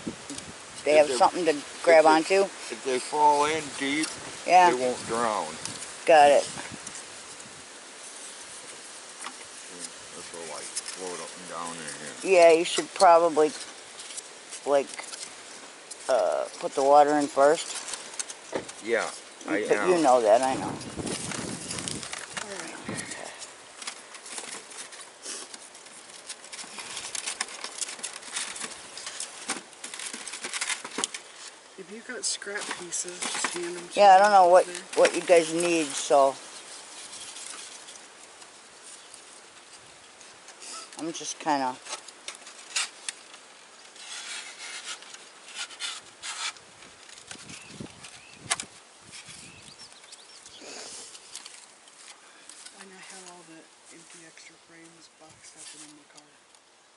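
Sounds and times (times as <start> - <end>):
wooden pieces scraping: 0.3 - 31.7, 32.4 - 53.2
foam crackling and squeaking: 2.1 - 52.0.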